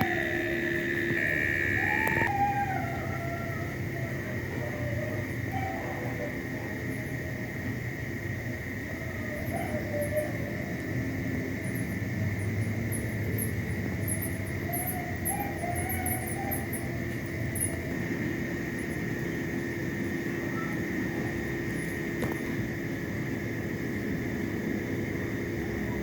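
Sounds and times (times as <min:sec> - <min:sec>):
insects trilling: 0:00.0 - 0:26.0
rapid high insect chirps: 0:00.0 - 0:26.0.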